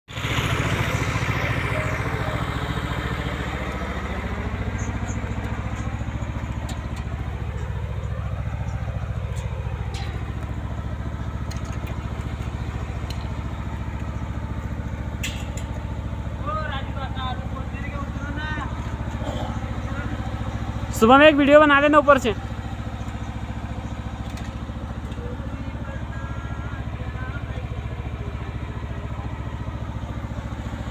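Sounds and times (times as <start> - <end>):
engine running with a throb: 0.0 - 30.9.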